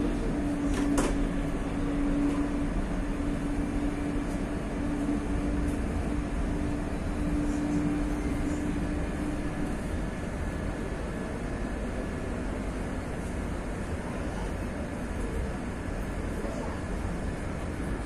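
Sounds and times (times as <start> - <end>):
steady hum: 0.0 - 18.0
train rumbling through tunnel: 0.0 - 18.0.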